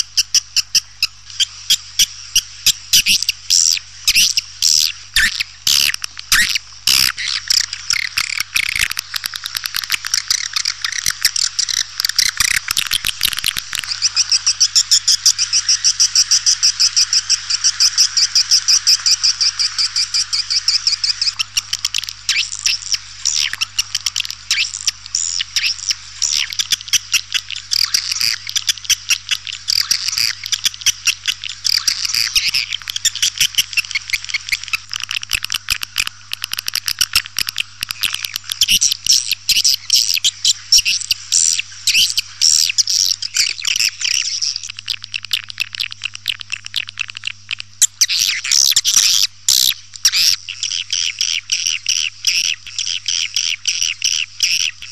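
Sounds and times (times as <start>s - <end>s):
swiftlets twittering and chirping: 0.0s - 54.9s.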